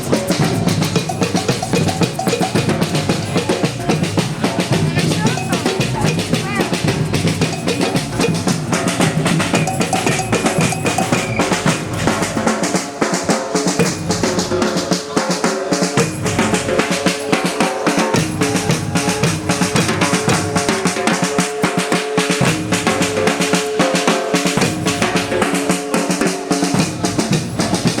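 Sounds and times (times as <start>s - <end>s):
bass drums: 0.0s - 21.6s, 22.4s - 23.8s, 24.4s - 28.0s
snare drums: 0.0s - 28.0s.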